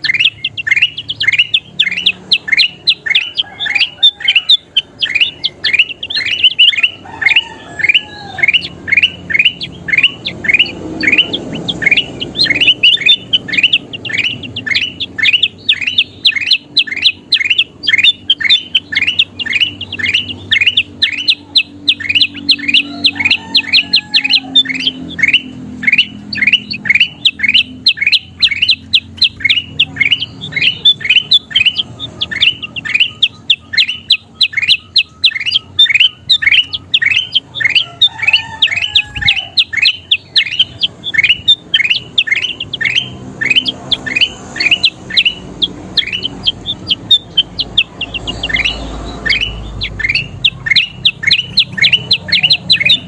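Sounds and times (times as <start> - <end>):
bulbul calling: 0.0 - 53.0.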